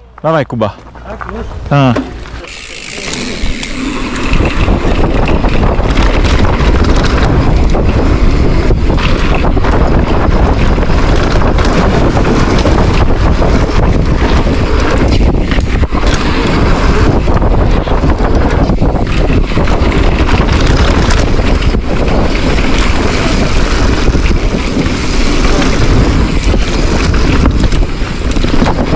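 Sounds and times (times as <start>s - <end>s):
heavy low rumble: 0.0s - 28.9s
wind buffeting microphone: 1.4s - 28.9s.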